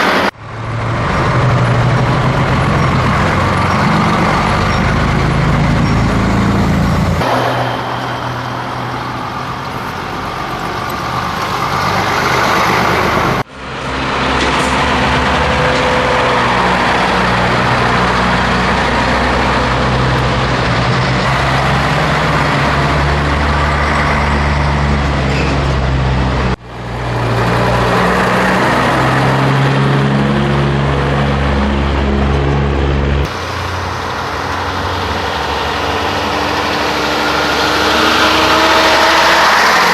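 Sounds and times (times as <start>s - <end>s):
truck diesel engine changing gear: 0.0s - 39.9s.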